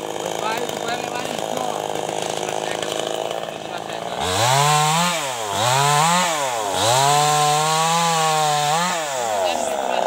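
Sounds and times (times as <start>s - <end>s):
chainsaw revving: 0.0s - 10.0s.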